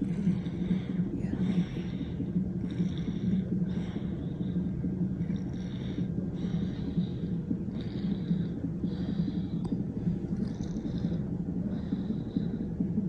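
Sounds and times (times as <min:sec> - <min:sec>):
fetal heartbeat doppler whoosh: 0:00.0 - 0:13.0.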